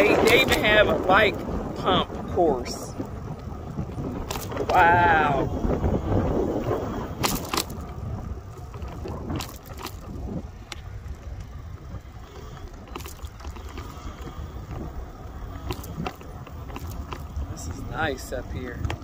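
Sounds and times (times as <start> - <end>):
bicycle tyre noise: 0.0 - 19.0
bike knocking over bumps: 0.0 - 19.0
wind buffeting microphone: 0.0 - 19.0.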